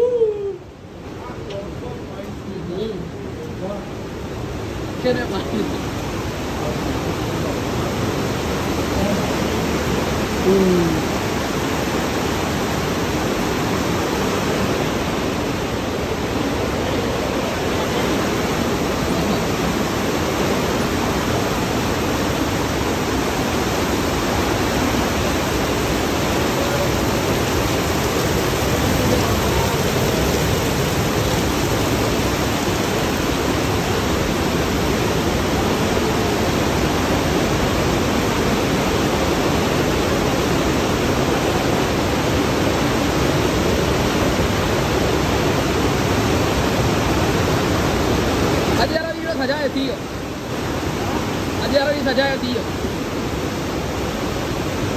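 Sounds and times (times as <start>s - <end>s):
whitewater rushing: 0.0s - 54.9s.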